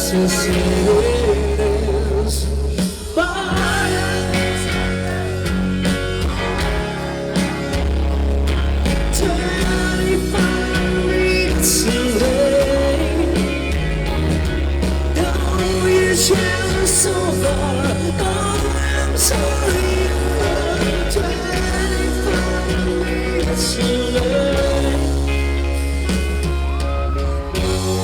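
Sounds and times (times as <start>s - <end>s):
pop-rock band instrumental: 0.0s - 28.0s.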